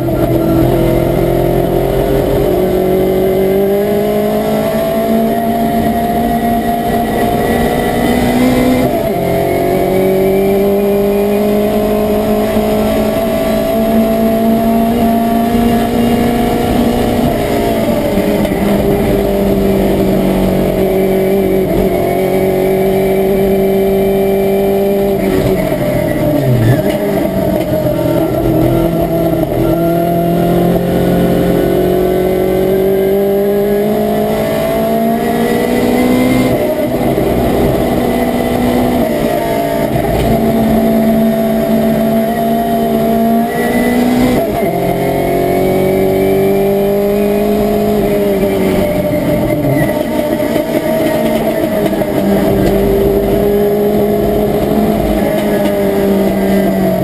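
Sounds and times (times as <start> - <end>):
car engine at full throttle: 0.0 - 57.0.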